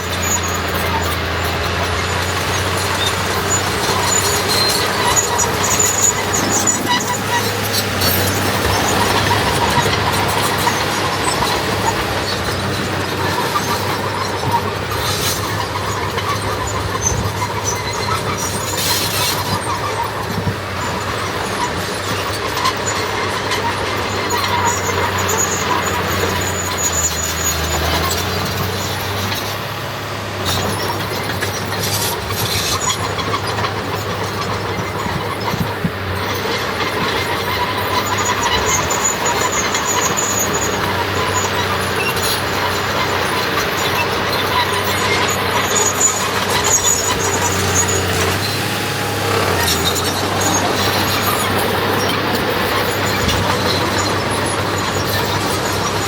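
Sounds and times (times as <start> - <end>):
diesel machinery running: 0.0 - 56.0
high squeals: 0.0 - 56.0.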